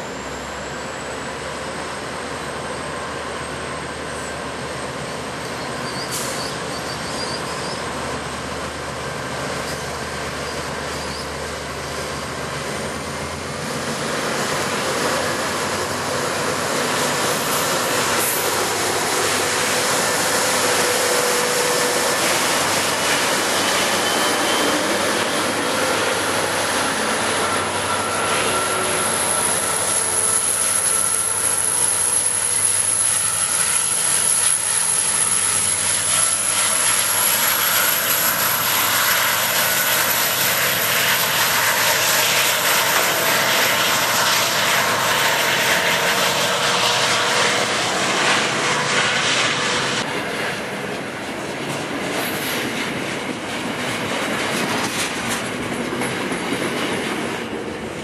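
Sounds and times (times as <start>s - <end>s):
high squeal from wheels: 0.0s - 8.3s, 9.4s - 50.1s
diesel locomotive engine: 0.0s - 58.0s.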